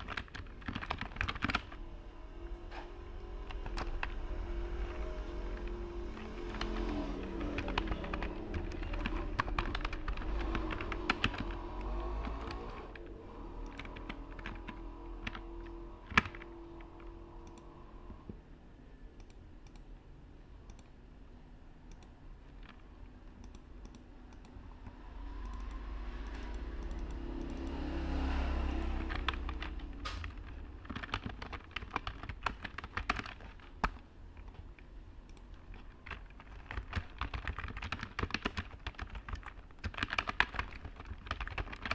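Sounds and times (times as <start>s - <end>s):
typing on computer keyboard: 0.0s - 1.9s, 3.4s - 17.7s, 21.9s - 27.8s, 28.7s - 41.9s
low background rumble and hum: 0.0s - 41.9s.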